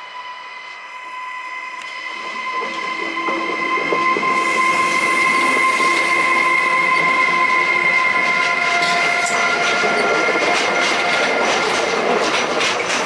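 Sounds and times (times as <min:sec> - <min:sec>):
electric locomotive high whine: 0:00.0 - 0:13.0
train wheels rumbling: 0:00.0 - 0:13.0.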